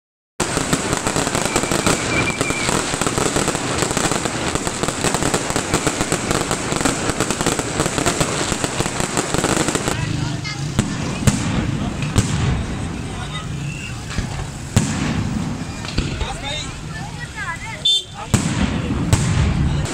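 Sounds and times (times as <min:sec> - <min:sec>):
fireworks bangs and crackles: 0:00.4 - 0:19.9.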